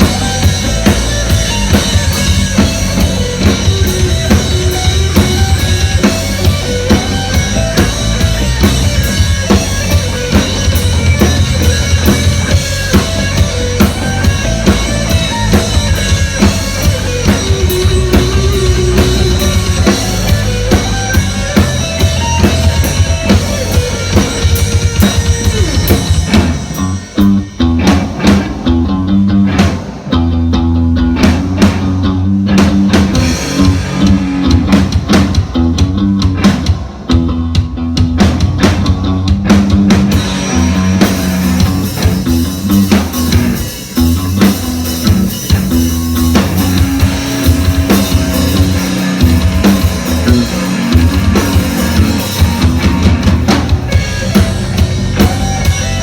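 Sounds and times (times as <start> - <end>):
driving drum beat: 0.0 - 56.0
live band music: 0.0 - 56.0
repeating bass line: 0.0 - 56.0.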